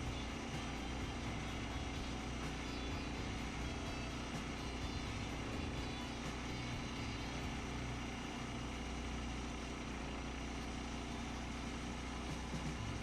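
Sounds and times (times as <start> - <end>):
sawmill gas engine running: 0.0 - 13.0.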